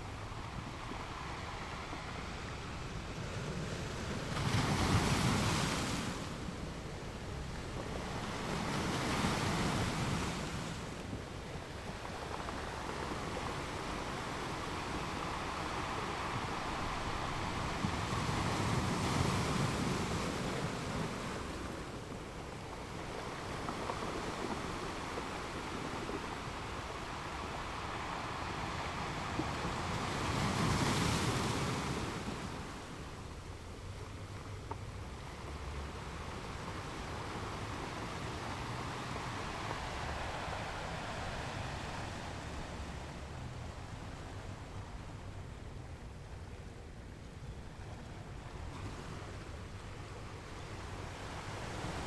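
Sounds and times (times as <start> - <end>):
sea waves breaking on beach: 0.6 - 33.6, 35.3 - 45.0, 48.5 - 52.0.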